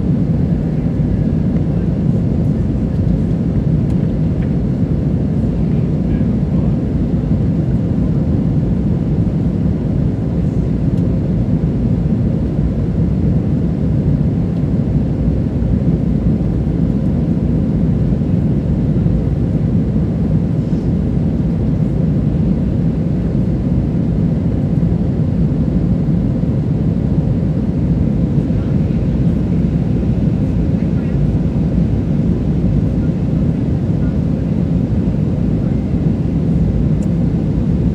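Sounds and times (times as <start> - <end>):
aircraft cabin engine roar: 0.0 - 37.9.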